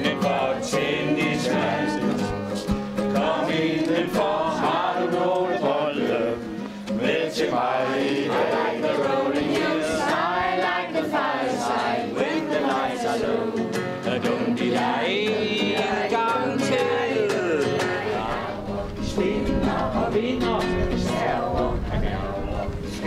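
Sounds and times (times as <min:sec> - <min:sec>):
crowd singing in unison: 0:00.0 - 0:23.0.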